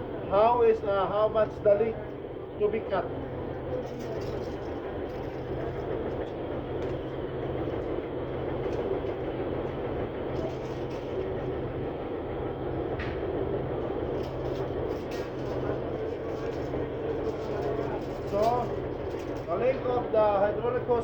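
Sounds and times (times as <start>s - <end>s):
mechanical rumble with low hum: 0.0s - 21.0s.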